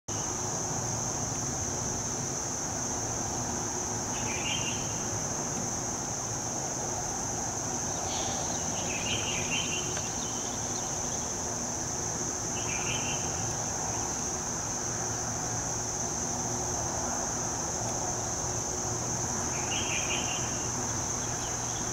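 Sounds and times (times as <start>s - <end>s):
insects droning: 0.1s - 21.9s
outdoor background noise: 0.1s - 21.9s.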